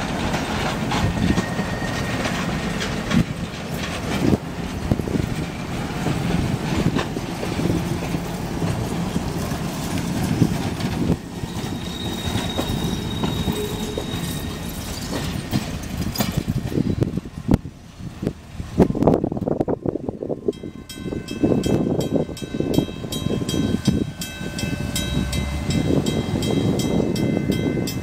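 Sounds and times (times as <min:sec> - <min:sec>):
railcar wheels clicking: 0:00.0 - 0:28.0
rolling train rumble: 0:00.0 - 0:28.0.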